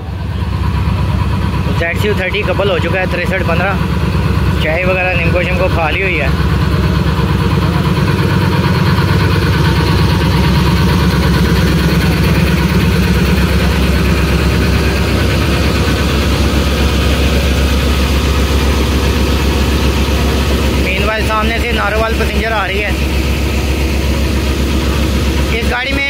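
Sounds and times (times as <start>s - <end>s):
diesel locomotive engine idling: 0.0s - 26.0s.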